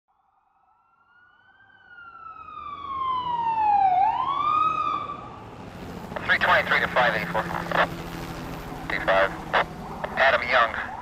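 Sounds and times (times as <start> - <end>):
police siren wailing: 0.3 - 11.0.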